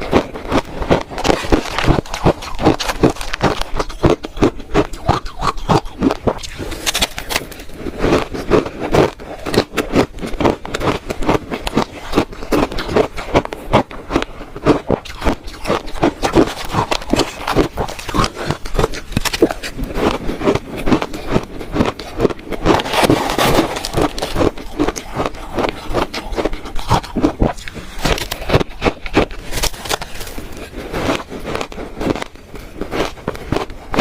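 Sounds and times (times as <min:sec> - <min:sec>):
shaved ice crunching when chewed: 0:00.0 - 0:34.0.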